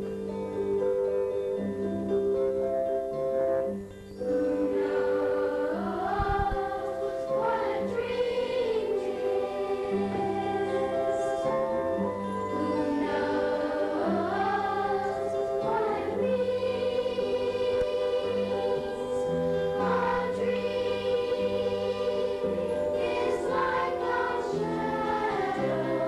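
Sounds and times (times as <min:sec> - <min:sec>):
youth choir singing: 0:04.2 - 0:26.0.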